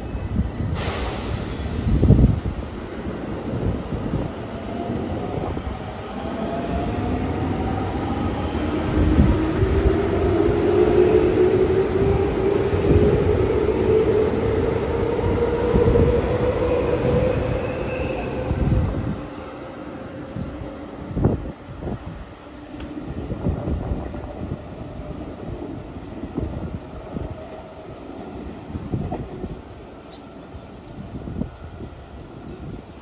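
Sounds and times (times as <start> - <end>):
wheels rumbling on rail: 0.0 - 33.0.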